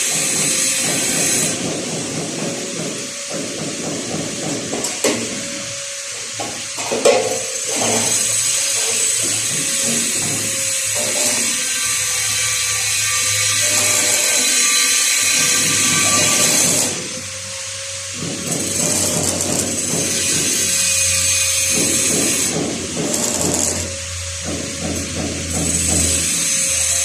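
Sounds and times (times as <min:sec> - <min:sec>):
metalworking tool hissing: 0:02.6 - 0:24.5.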